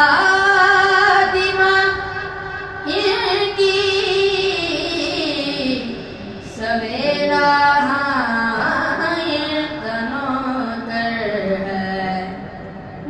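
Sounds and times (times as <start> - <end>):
boy singing into a microphone: 0.0 - 13.0.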